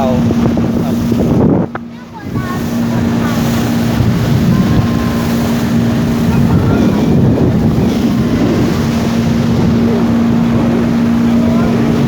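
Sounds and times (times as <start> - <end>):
motorboat engine humming: 0.0 - 12.0
rushing water: 0.0 - 12.0
wind buffeting microphone: 0.0 - 12.0.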